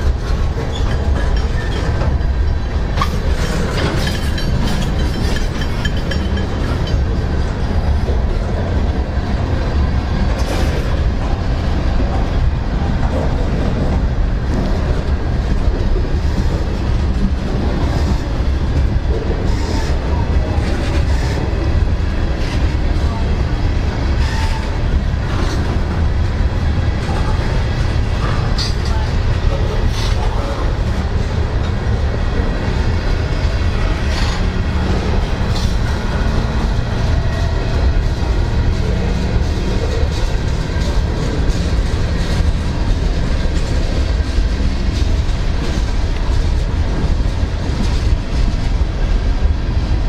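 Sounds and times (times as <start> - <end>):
freight train wheels rumbling on rail: 0.0 - 50.0.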